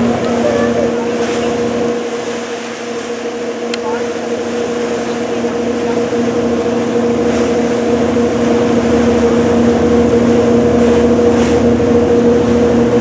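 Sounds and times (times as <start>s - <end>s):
boat engine droning: 0.0s - 13.0s
rushing water noise: 0.0s - 13.0s.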